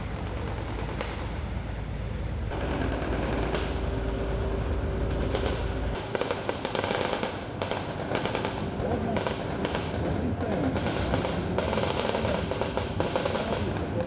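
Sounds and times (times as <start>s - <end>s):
low rumble: 0.0s - 14.0s
crackling gunfire: 2.5s - 14.0s.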